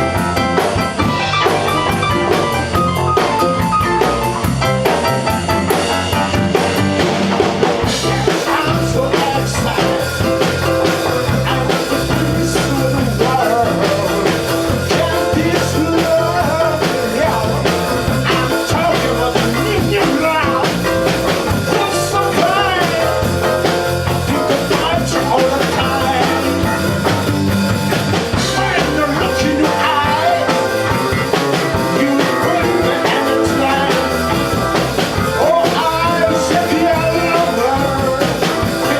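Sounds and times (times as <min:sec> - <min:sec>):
blues-rock band playing: 0:00.0 - 0:38.9.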